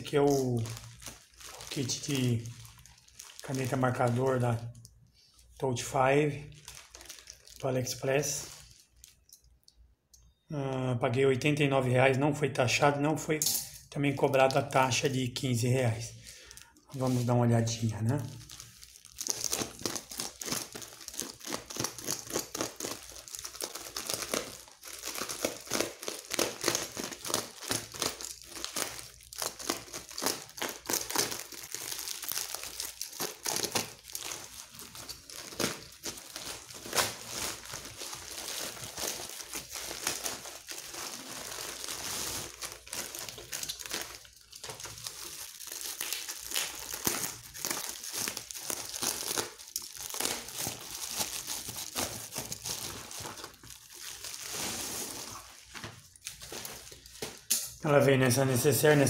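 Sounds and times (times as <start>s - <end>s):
plastic mailer crinkling: 0.0s - 4.7s, 6.4s - 9.3s, 16.4s - 57.5s
bubble wrap crinkling: 0.0s - 9.8s, 14.2s - 59.0s.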